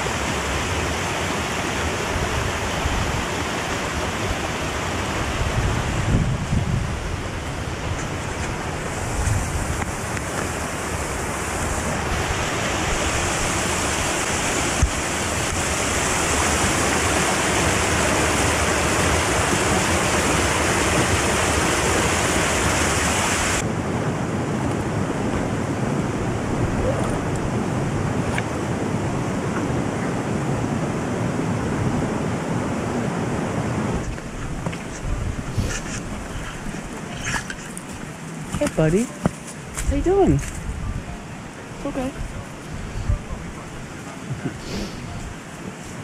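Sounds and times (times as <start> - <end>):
stream water flowing: 0.0 - 46.0
wind buffeting microphone: 2.0 - 39.0, 39.6 - 46.0.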